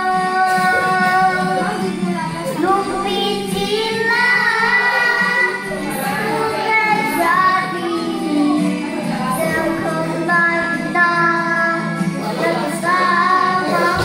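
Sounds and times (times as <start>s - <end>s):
girl singing into a microphone: 0.0s - 14.0s
karaoke backing track: 0.0s - 14.0s.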